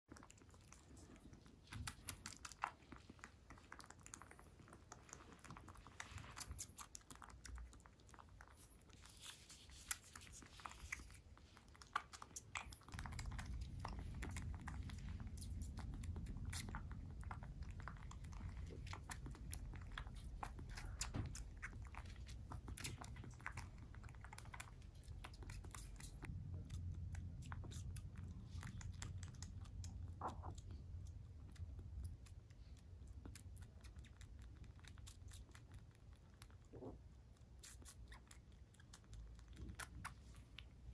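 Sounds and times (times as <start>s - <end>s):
kitten suckling wet clicks: 0.1s - 40.9s
low steady rumble: 0.1s - 40.9s.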